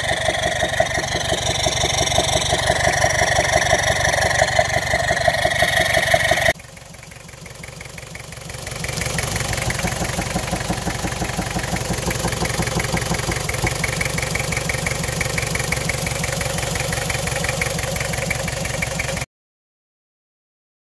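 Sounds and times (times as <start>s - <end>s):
diesel engine idling: 0.0s - 19.3s.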